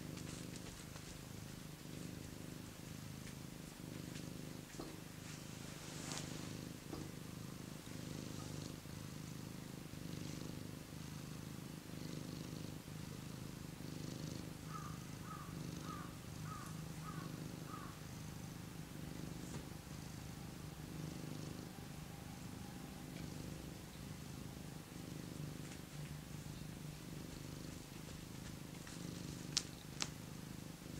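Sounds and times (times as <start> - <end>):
cat purring: 0.0 - 30.9.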